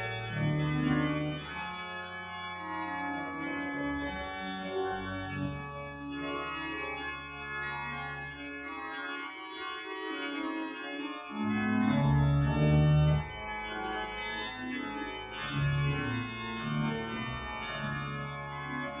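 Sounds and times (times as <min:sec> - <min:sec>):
organ bass notes: 0:00.0 - 0:08.8, 0:11.3 - 0:19.0
church organ chords: 0:00.0 - 0:19.0.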